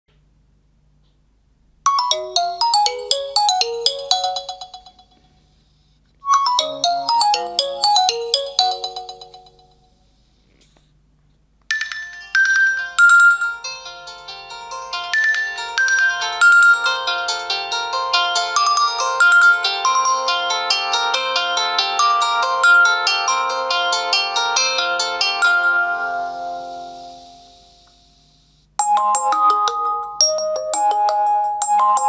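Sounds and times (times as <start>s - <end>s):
bell-like phone ringtone: 1.9s - 5.4s, 6.2s - 10.0s, 11.7s - 27.6s, 28.8s - 32.0s
busier ringtone melody: 1.9s - 5.6s, 6.2s - 10.0s, 11.7s - 32.0s.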